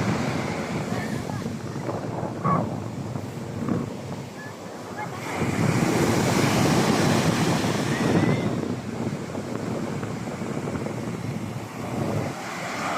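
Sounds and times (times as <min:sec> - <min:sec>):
sea waves washing in: 0:00.0 - 0:12.9
wind rumbling on microphone: 0:00.0 - 0:12.9.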